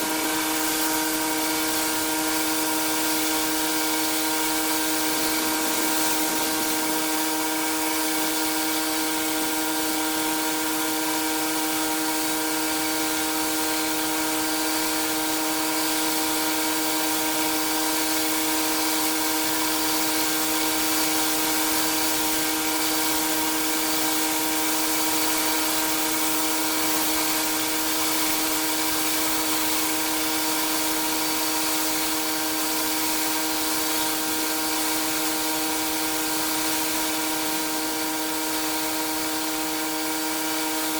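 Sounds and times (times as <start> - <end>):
high-pressure water spray hissing: 0.0 - 40.9
pressure washer humming: 0.0 - 40.9.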